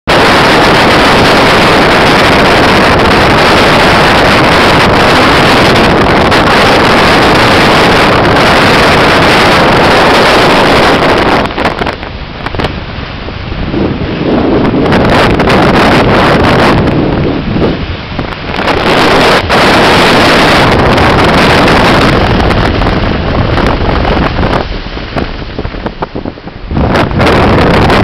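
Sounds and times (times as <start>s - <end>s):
wind blasting microphone: 0.0s - 28.0s
ocean surf breaking: 0.1s - 28.0s.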